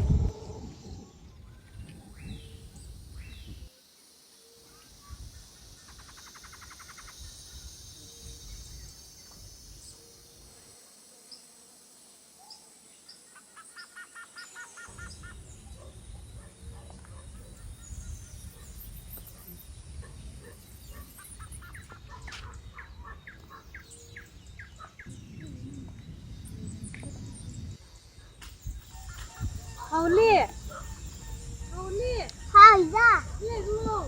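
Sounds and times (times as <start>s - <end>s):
small birds chirping: 0.0s - 11.6s, 12.4s - 34.0s.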